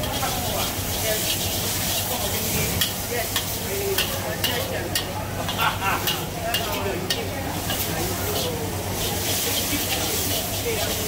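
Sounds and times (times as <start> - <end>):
food sizzling: 0.0 - 11.0
spatula scraping a wok: 0.0 - 11.0.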